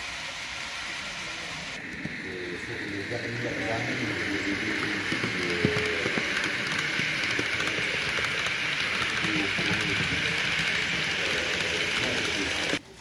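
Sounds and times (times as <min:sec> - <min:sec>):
model train wheels on rails: 0:00.0 - 0:13.0.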